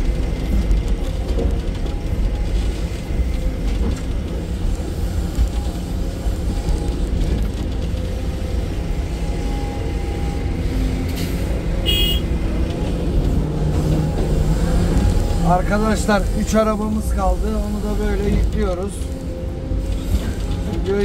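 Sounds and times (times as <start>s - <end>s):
excavator diesel engine rumble: 0.0s - 21.0s.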